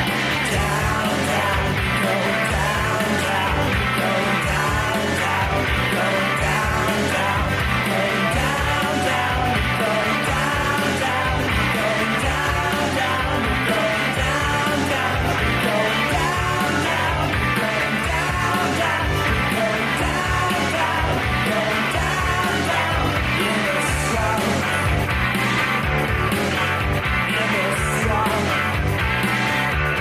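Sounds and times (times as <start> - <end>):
rock band music: 0.0 - 30.0.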